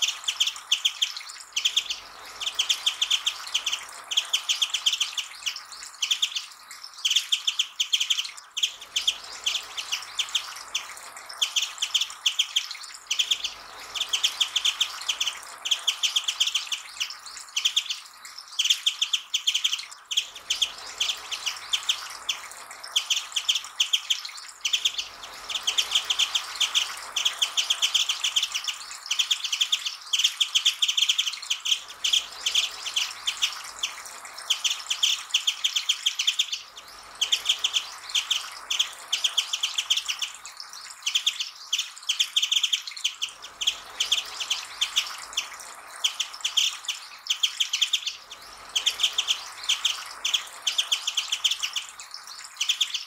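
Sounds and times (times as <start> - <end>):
bird twittering: 0.0 - 53.0.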